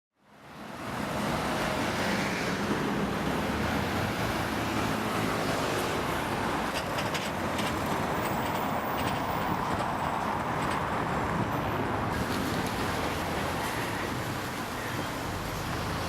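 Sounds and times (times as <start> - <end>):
city traffic rumble: 0.2 - 16.0.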